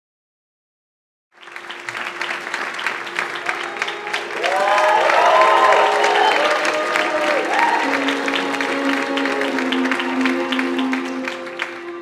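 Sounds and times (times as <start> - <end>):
audience applause: 1.4 - 12.0.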